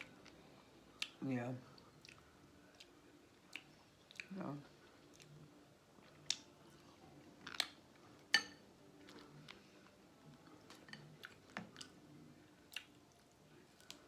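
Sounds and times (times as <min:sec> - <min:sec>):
chewing seafood: 0:00.0 - 0:14.0.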